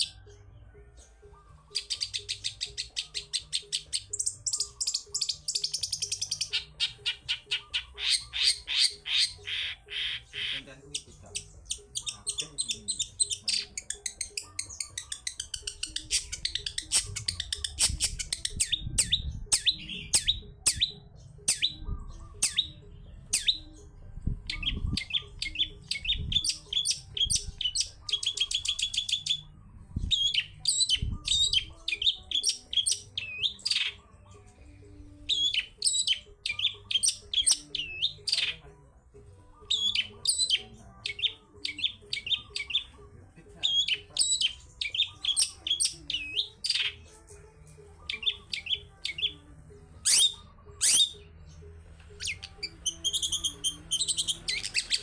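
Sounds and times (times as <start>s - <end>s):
shrike singing chattering song: 1.1s - 38.7s, 39.4s - 47.3s, 47.9s - 55.0s.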